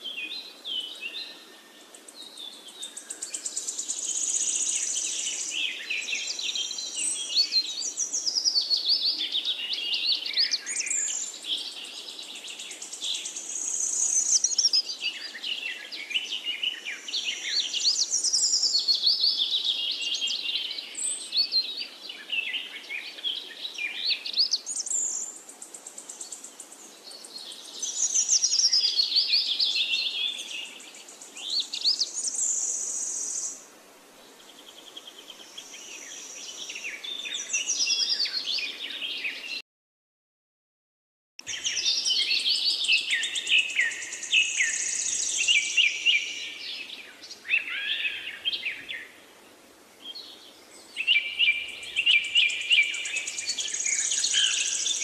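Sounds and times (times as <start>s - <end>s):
birds chirping and trilling: 0.0s - 33.6s, 34.3s - 39.6s, 41.4s - 55.0s.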